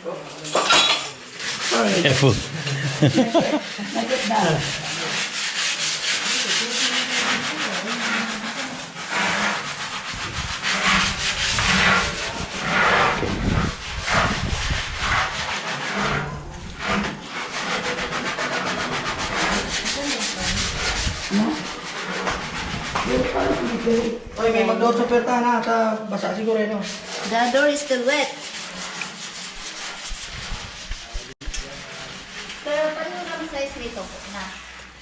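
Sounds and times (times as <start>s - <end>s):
rough rubbing and scraping: 0.5s - 24.7s, 26.8s - 35.0s.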